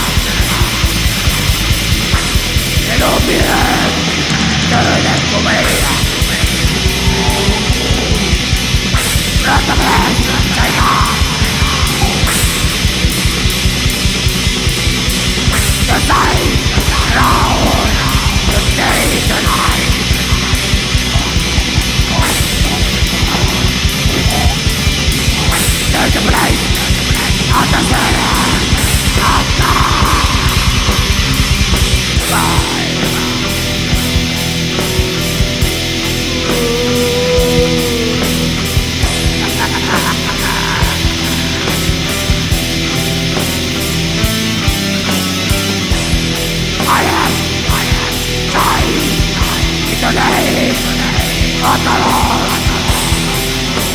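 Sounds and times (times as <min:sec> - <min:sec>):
distorted guitars: 0:00.0 - 0:53.9
fast drumming: 0:00.0 - 0:53.9
harsh shrieked vocals: 0:00.0 - 0:53.9.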